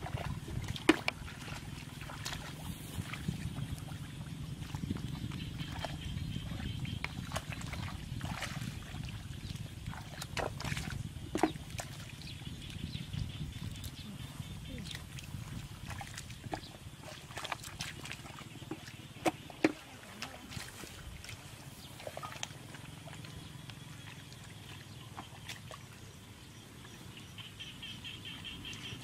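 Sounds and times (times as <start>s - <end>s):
mud splashing and squelching: 0.0s - 27.1s.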